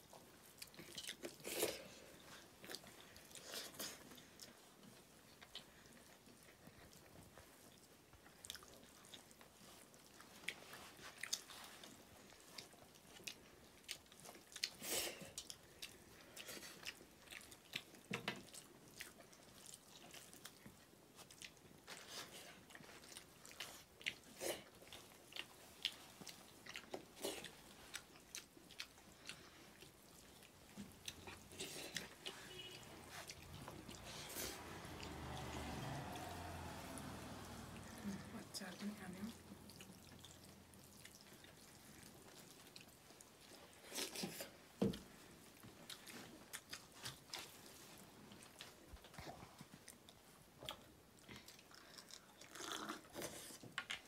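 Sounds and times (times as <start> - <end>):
people chewing and eating: 0.0 - 54.0.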